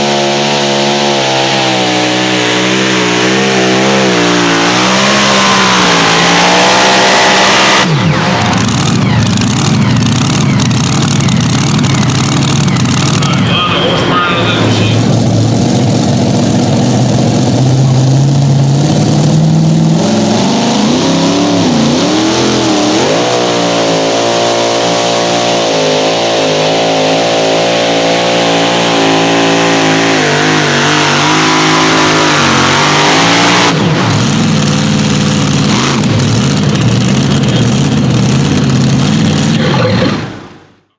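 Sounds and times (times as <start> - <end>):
vehicle engine revving hard: 0.0 - 40.6.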